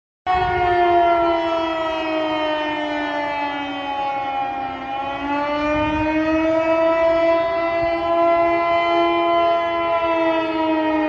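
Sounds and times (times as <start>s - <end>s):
warning sirens wailing: 0.3s - 11.0s.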